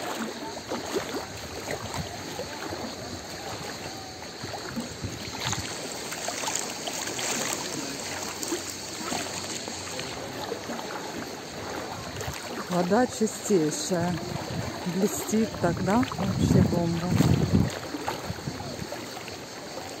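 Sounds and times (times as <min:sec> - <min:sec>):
seawater sloshing and splashing: 0:00.0 - 0:20.0
small splashes and clicks: 0:00.0 - 0:20.0.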